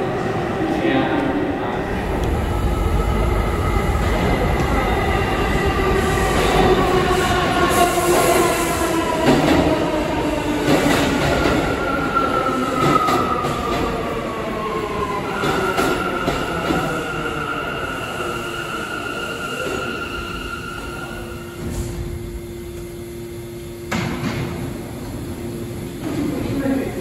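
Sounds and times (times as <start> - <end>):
subway train motors whining: 0.0 - 27.0.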